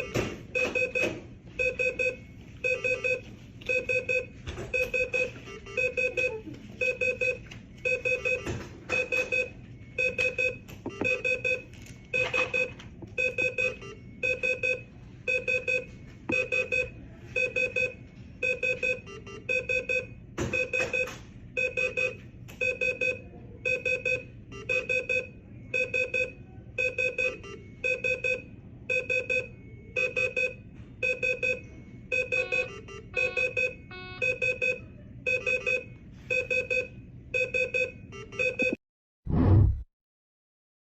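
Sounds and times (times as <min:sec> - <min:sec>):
medical equipment alarm beeping: 0:00.0 - 0:38.8.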